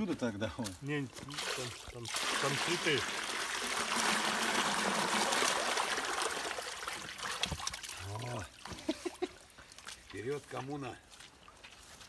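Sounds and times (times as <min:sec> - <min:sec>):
water pouring and splashing: 0:00.7 - 0:12.0.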